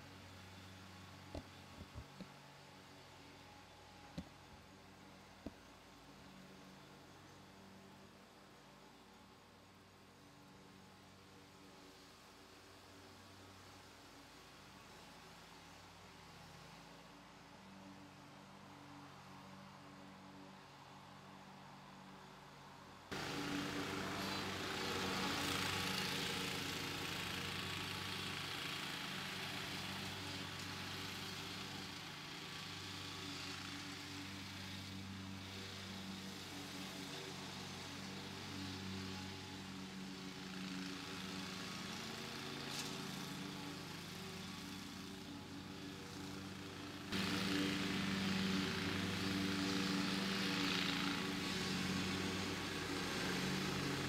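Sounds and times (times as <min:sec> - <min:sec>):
riding lawn mower engine: 0:00.0 - 0:54.0.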